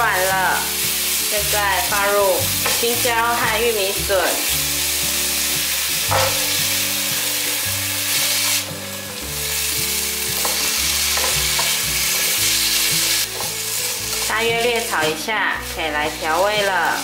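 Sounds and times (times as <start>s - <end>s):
vegetables sizzling in hot oil: 0.0s - 17.0s
spatula tossing stir-fry: 0.1s - 17.0s.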